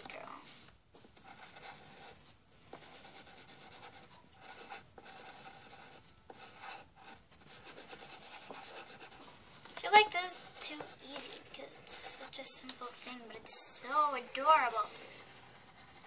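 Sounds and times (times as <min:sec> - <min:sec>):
pencils scratching on paper: 0:00.1 - 0:16.0.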